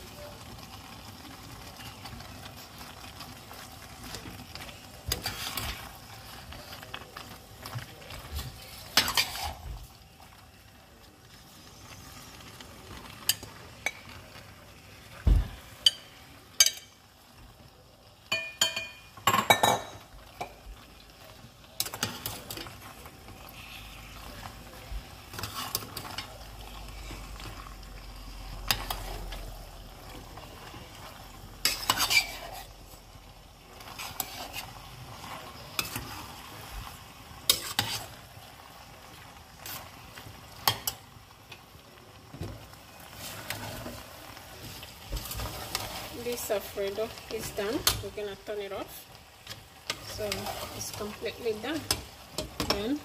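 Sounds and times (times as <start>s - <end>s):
utensil stirring pasta in sauce: 0.0s - 53.0s.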